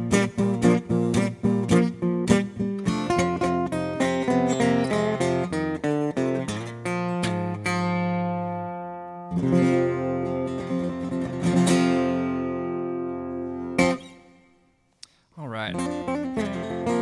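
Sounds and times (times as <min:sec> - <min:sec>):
acoustic guitar fingerpicking and chords: 0:00.0 - 0:17.0.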